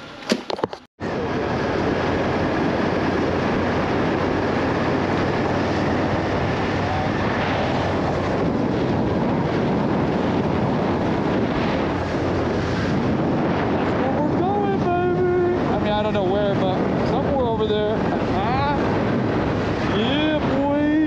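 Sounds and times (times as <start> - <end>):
motorcycle engine drone: 1.0 - 21.0
wind rush on microphone: 1.0 - 21.0.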